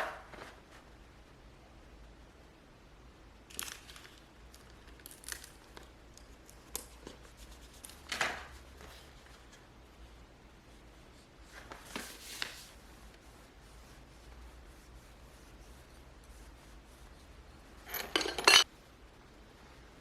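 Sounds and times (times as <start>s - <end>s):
low room hum: 0.0s - 20.0s
soft rustles and crinkles: 0.1s - 1.0s, 3.5s - 18.7s.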